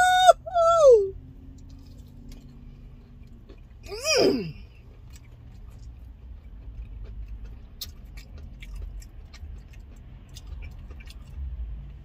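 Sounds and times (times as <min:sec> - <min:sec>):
person chewing and lip smacking: 0:00.0 - 0:12.0.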